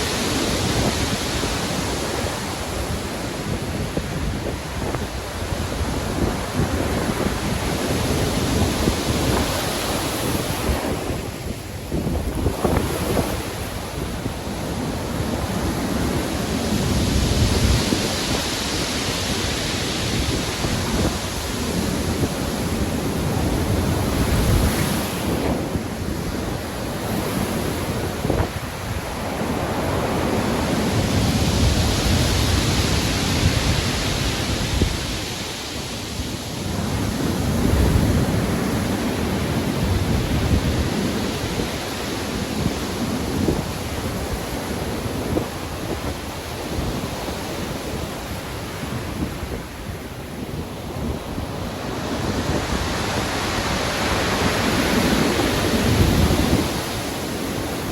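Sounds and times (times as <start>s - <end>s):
ocean surf breaking: 0.0s - 57.9s
wind: 0.0s - 57.9s.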